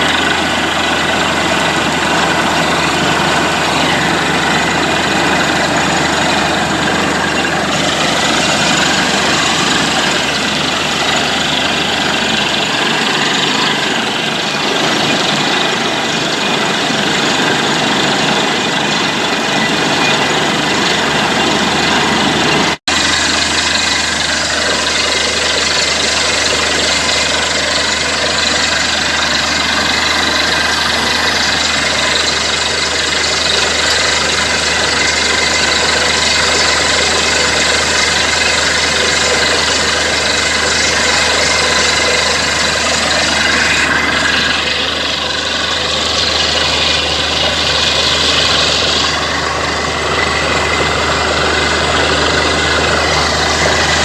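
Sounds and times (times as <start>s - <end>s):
drilling rig engine hum: 0.0s - 54.0s
rushing noise: 0.0s - 54.0s.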